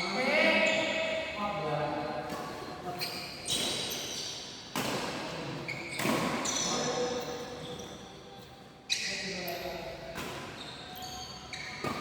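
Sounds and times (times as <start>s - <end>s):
shoes squeaking on court floor: 0.3s - 1.1s, 2.4s - 12.0s.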